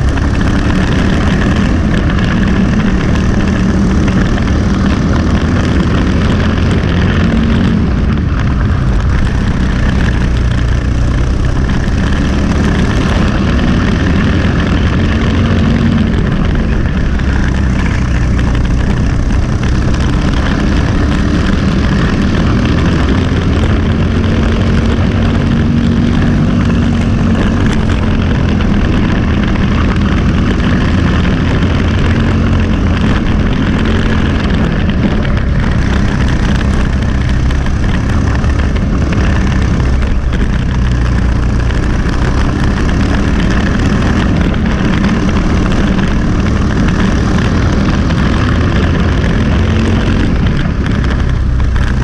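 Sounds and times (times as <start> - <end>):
kart engine running hard: 0.0 - 52.0.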